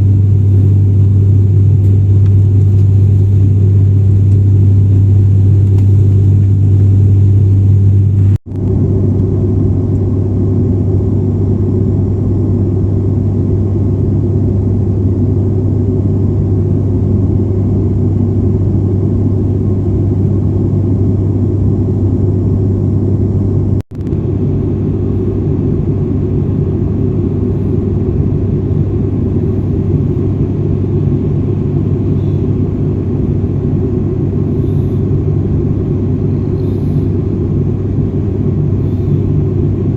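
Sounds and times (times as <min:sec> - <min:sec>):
turboprop engines droning in cabin: 0:00.0 - 0:39.9.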